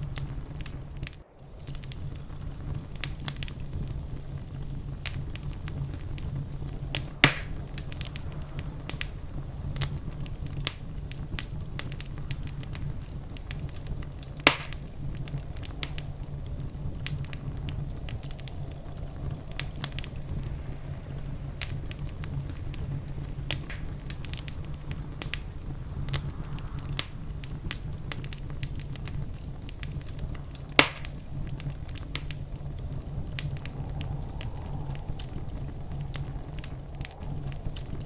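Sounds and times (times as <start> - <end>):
fireplace fire crackling: 0.0 - 38.0.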